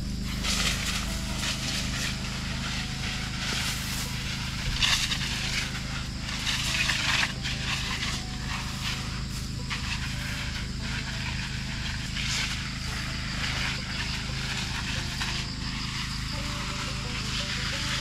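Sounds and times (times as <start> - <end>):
footsteps through tall grass: 0.0 - 18.0
power sprayer engine drone: 0.0 - 18.0.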